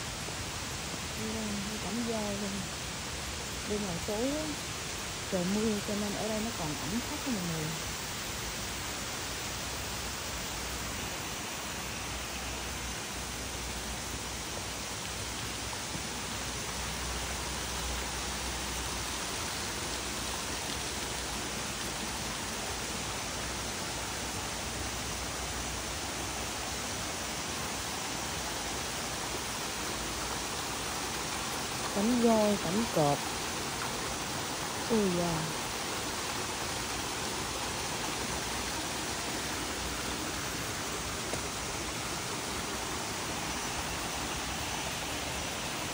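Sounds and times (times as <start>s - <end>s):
flowing stream water: 0.0s - 45.9s.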